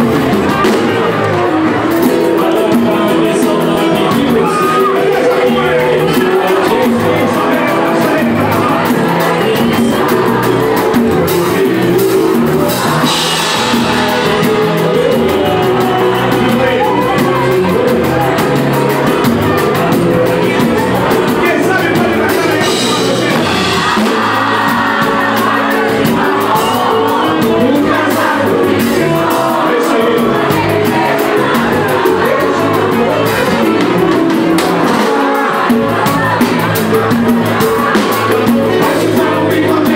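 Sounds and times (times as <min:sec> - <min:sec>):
crowd shouting along: 0:00.0 - 0:39.9
samba band with singing: 0:00.0 - 0:39.9.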